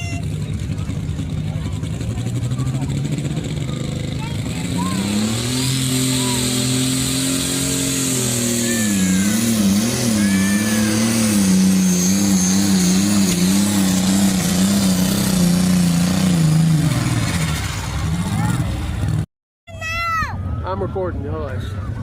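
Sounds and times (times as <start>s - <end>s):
truck engine at full throttle: 0.0s - 19.3s.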